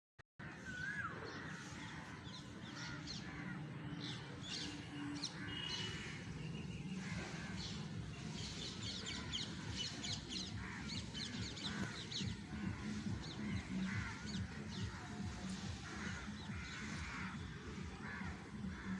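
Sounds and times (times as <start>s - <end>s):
birds chirping: 0.6s - 18.9s.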